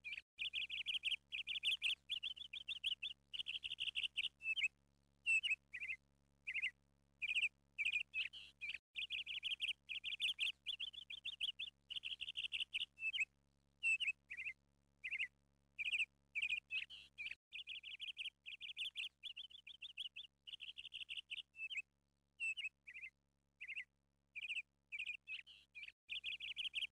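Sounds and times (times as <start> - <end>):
small bird chirping and trilling: 0.0 - 26.9.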